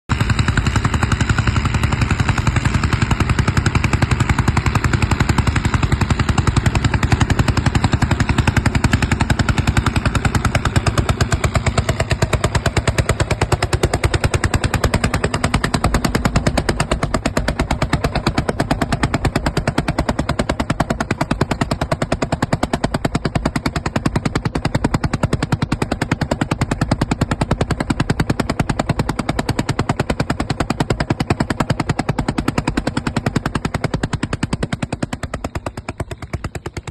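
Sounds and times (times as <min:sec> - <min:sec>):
tractor engine exhaust crackling: 0:00.1 - 0:36.9.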